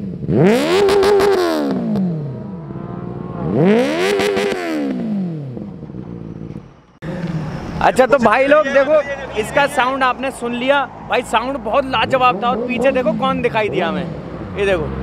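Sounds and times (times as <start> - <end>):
motorcycle engine revving: 0.0 - 8.2, 9.2 - 15.0.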